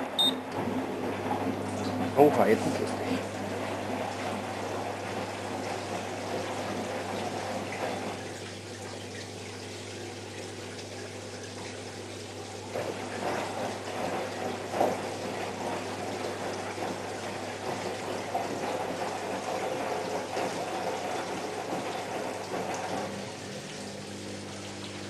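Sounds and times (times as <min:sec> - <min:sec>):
water rushing in washing machine: 0:00.0 - 0:25.0.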